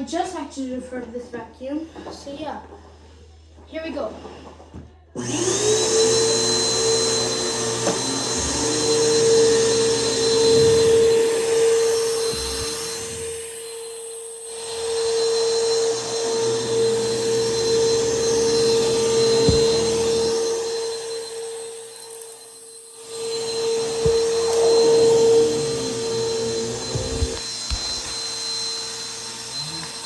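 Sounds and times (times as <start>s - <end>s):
vacuum cleaner motor whine: 4.1s - 30.0s.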